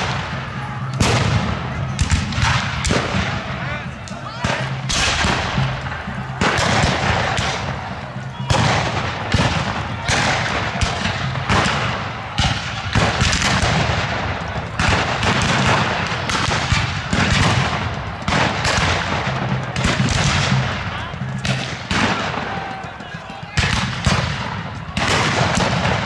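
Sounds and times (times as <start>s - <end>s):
black-powder gunshots echoing: 0.0s - 3.5s, 4.4s - 7.8s, 8.4s - 23.0s, 23.6s - 26.0s.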